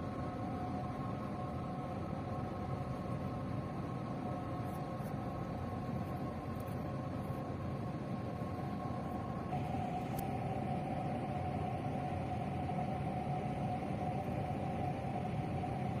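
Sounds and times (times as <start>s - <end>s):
steady humming tones: 0.0s - 16.0s.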